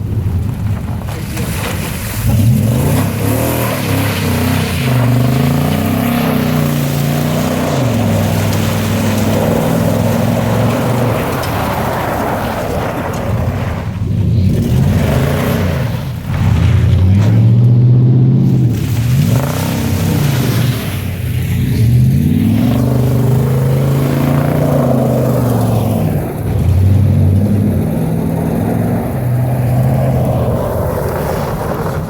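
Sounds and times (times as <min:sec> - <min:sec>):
pickup engine revving: 0:00.0 - 0:32.0.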